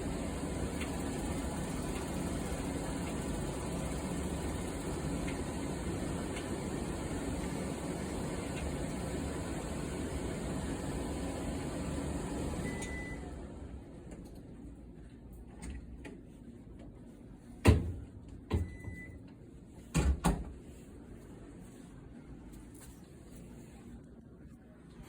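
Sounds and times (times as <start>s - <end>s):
clothes dryer humming: 0.0s - 22.5s.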